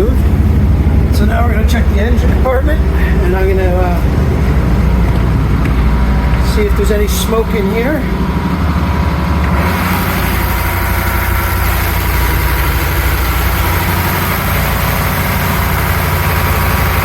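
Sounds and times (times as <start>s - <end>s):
marine diesel engine running: 0.0s - 17.0s.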